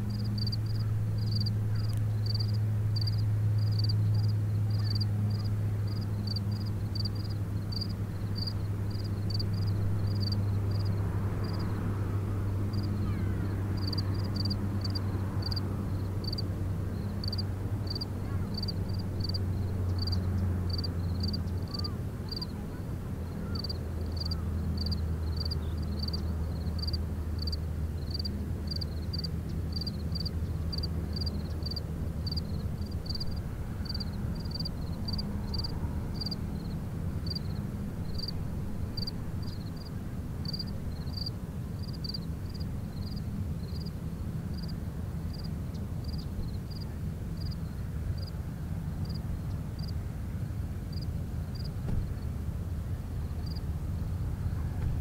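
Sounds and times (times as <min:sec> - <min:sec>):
low drone with hum: 0:00.0 - 0:55.0.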